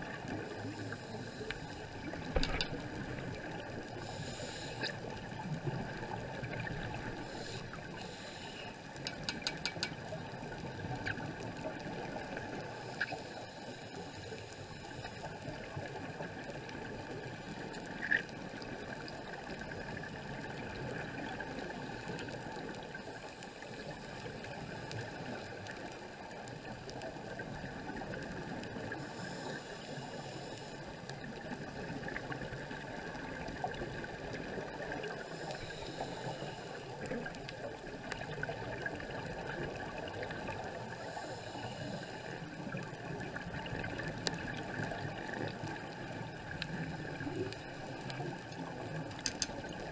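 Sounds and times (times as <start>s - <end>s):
muffled underwater rushing water: 0.0s - 49.9s
faint clicks: 0.2s - 20.0s, 20.6s - 40.7s, 41.3s - 49.9s.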